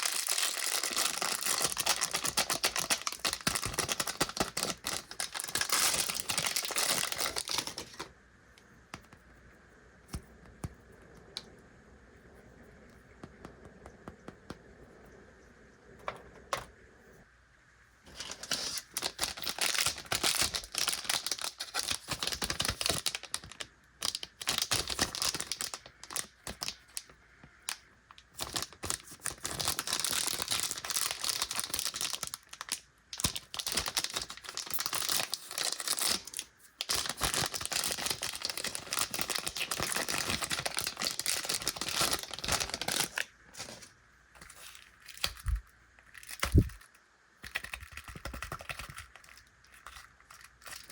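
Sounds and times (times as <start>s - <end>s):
plastic wrapper crinkling and tearing: 0.0s - 8.1s, 18.1s - 50.9s.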